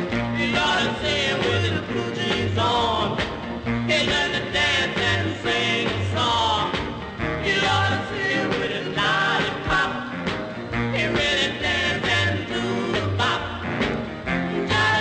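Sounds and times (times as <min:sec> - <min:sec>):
rock and roll song with singing: 0:00.0 - 0:15.0.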